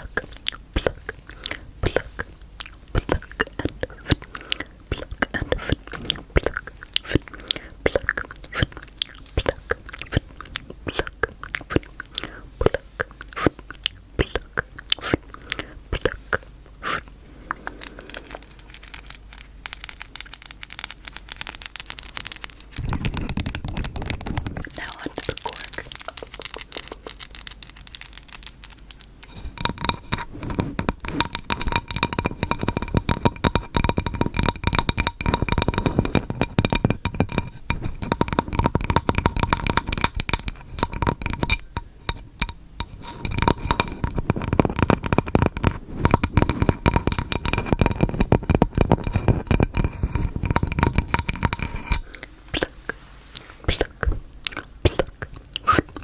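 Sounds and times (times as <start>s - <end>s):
crackling and crinkling on microphone: 0.0s - 56.0s.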